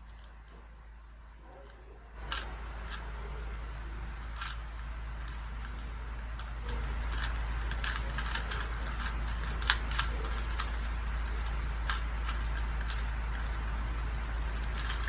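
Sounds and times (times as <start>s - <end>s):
steady low hum: 0.0s - 15.0s
puzzle cube clicking and rattling: 1.6s - 3.4s, 4.1s - 15.0s.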